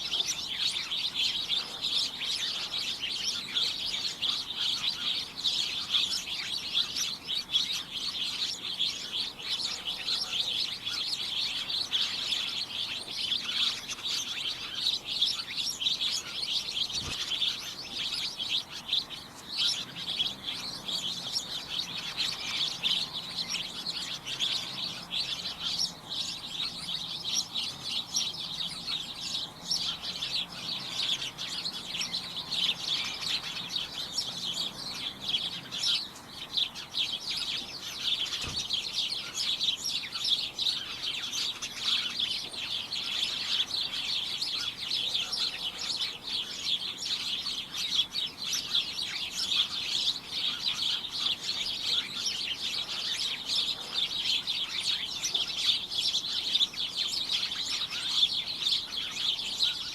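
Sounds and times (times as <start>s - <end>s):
flock of small birds chirping: 0.0s - 59.9s.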